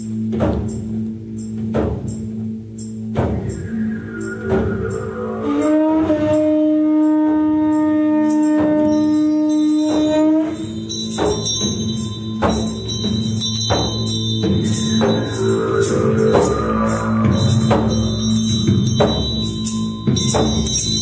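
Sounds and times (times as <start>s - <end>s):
struck percussion ringing: 0.0s - 21.0s
sustained low drone: 2.6s - 21.0s.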